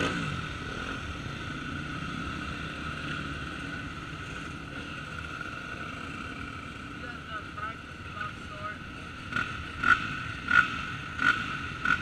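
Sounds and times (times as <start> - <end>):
dirt bike engines idling: 0.0 - 12.0.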